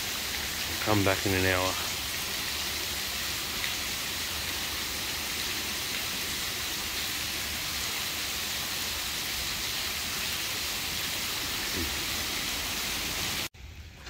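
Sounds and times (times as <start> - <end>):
rain hissing on river: 0.0 - 14.0.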